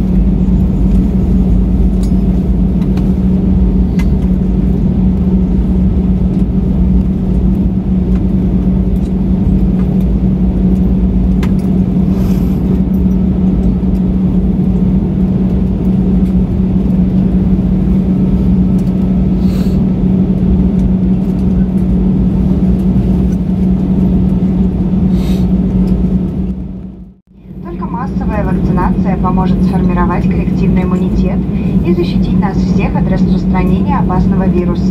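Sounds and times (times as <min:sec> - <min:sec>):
aircraft engine and rolling drone: 0:00.0 - 0:34.9.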